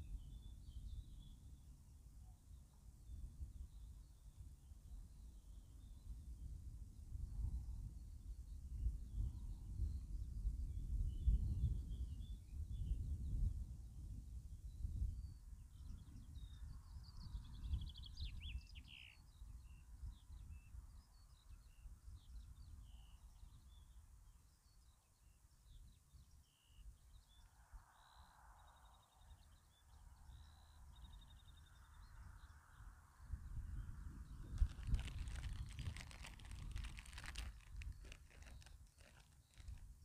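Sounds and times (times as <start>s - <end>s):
small songbirds chirping: 0.0s - 6.3s, 7.8s - 40.0s
wind rumble on microphone: 0.0s - 24.8s, 25.7s - 40.0s.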